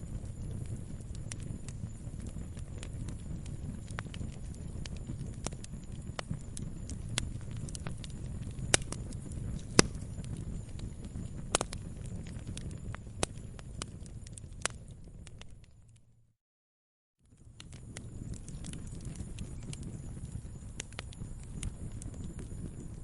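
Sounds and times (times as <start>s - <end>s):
flames rumbling: 0.0s - 15.8s, 17.3s - 23.0s
burning wood crackling and popping: 0.0s - 16.0s, 17.3s - 23.0s.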